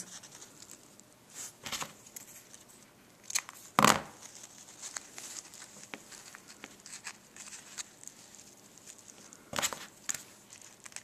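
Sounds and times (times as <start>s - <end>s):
ribbon crinkling: 0.0s - 11.0s.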